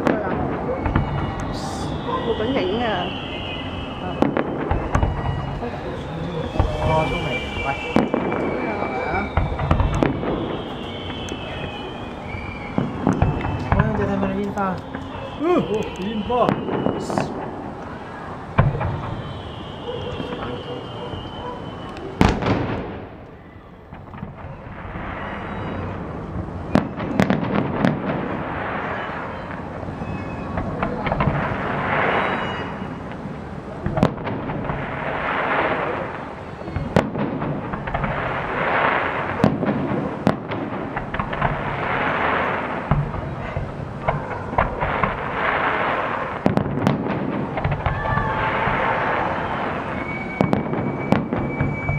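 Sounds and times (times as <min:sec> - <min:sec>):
crackling hissing fireworks: 0:00.0 - 0:51.9.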